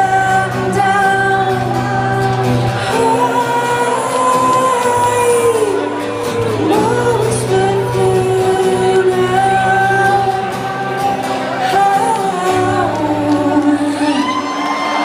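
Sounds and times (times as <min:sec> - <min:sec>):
woman singing long held notes: 0:00.0 - 0:15.0.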